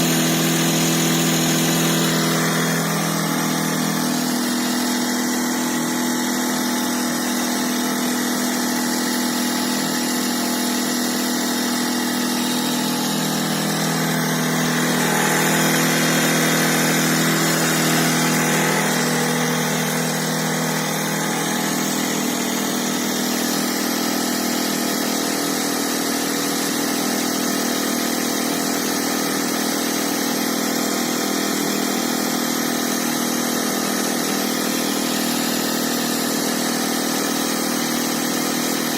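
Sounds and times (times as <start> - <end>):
electric air pump humming: 0.0 - 38.9.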